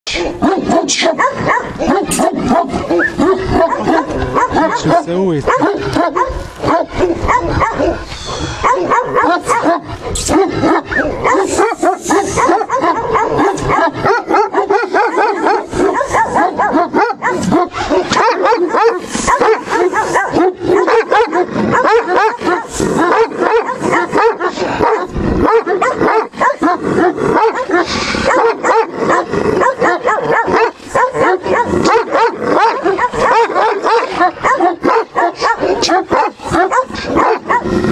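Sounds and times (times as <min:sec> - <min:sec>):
dog barking rapidly: 0:00.1 - 0:37.9.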